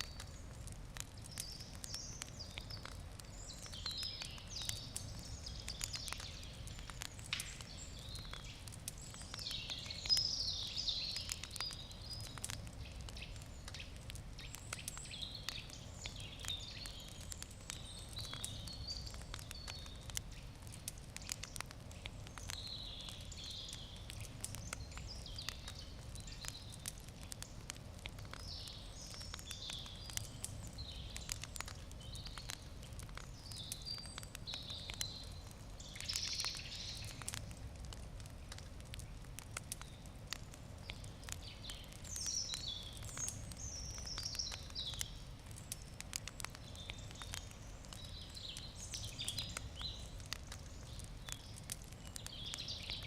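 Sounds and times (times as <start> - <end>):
birds chirping: 0.0 - 38.4, 39.3 - 53.0
campfire crackling and popping: 0.0 - 53.0.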